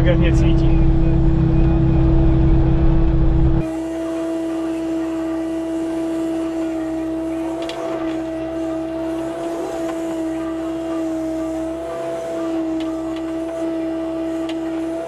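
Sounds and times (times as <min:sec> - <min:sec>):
excavator engine droning: 0:00.0 - 0:15.0.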